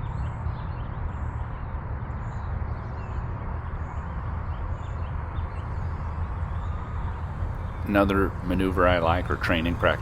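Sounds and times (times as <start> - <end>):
small birds chirping: 0.0 - 10.0
wind buffeting microphone: 0.0 - 10.0.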